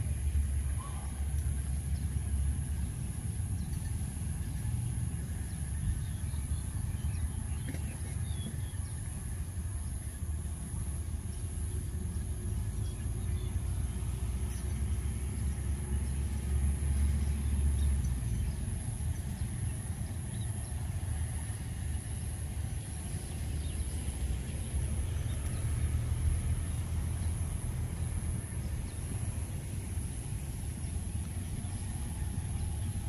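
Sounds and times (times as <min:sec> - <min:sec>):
distant diesel locomotive rumble: 0:00.0 - 0:33.0.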